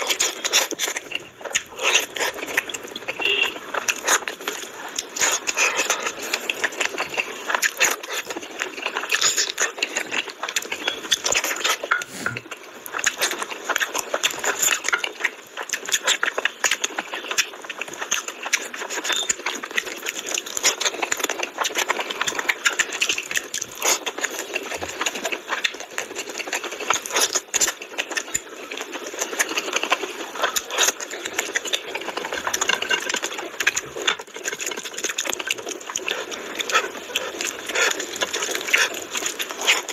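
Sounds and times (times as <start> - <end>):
chewing and lip-smacking: 0.0 - 39.9.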